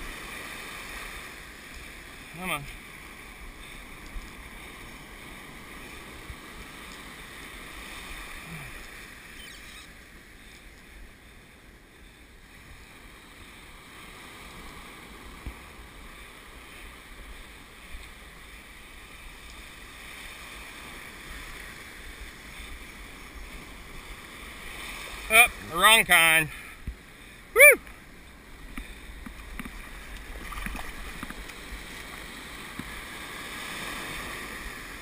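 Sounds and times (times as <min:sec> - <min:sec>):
waves breaking and draining: 0:00.0 - 0:35.0.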